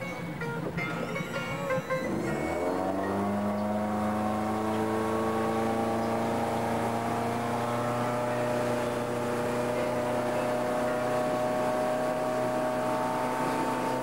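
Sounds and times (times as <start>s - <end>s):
motorboat engine running: 0.0s - 14.0s
rushing water: 0.0s - 14.0s.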